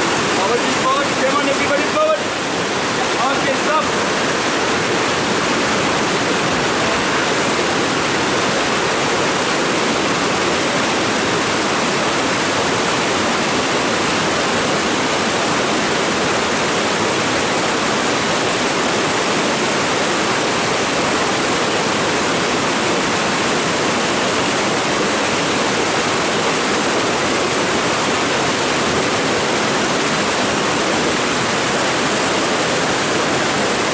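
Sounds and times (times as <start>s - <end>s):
river rushing through rapids: 0.0s - 33.9s.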